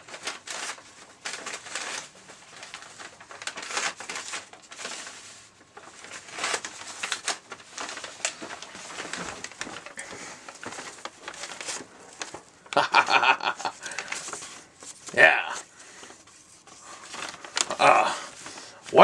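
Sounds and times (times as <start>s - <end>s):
paper bags rustling: 0.0s - 19.0s.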